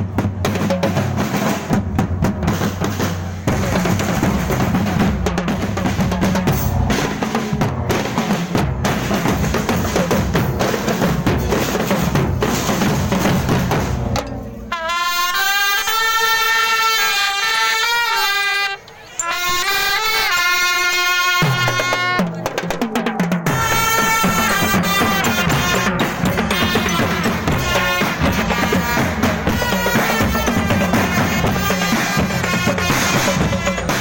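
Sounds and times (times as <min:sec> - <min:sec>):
drums with snare and bass drum: 0:00.0 - 0:34.0.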